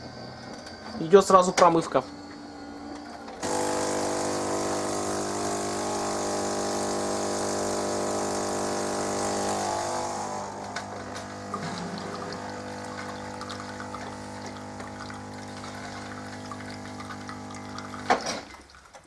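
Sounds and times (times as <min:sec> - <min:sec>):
coffee machine pump buzzing: 0:00.2 - 0:18.6
water hissing through machine: 0:03.4 - 0:18.7.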